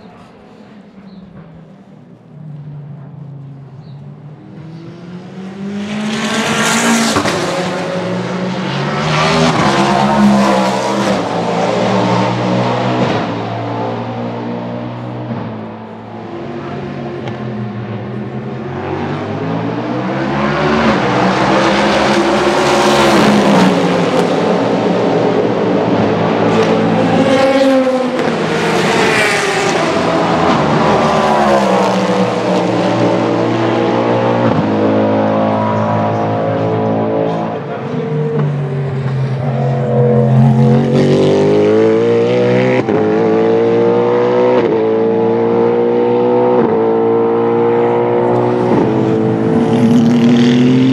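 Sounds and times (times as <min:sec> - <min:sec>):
racing car engine passing: 0:04.4 - 0:50.9.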